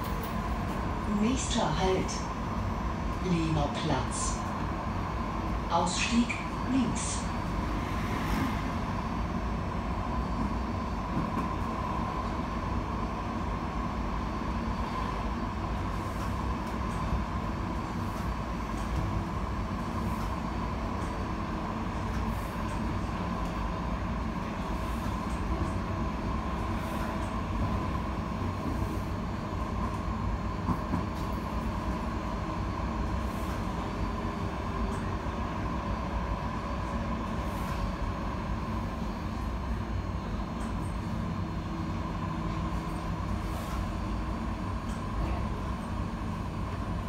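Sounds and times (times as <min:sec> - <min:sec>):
tram wheels rumbling on rail: 0:00.0 - 0:47.0.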